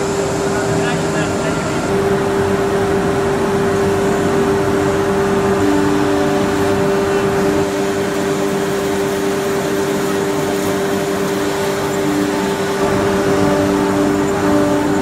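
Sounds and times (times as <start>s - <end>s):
dust collector rushing air: 0.0s - 15.0s
lower machine tone: 0.0s - 15.0s
router spindle whine: 0.0s - 15.0s.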